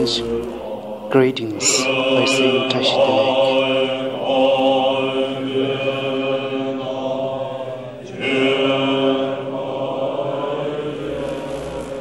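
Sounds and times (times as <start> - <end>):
monks chanting in low notes: 0.0 - 12.0.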